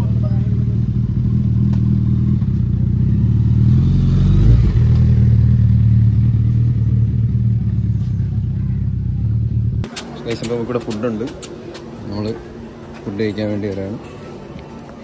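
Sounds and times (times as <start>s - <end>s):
motorcycle engine idling and revving: 0.0s - 12.4s.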